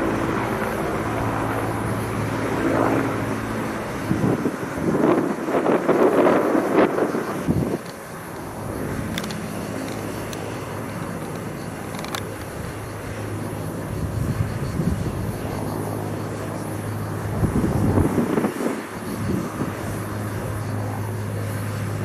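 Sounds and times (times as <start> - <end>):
wind buffeting microphone: 0.0 - 21.2.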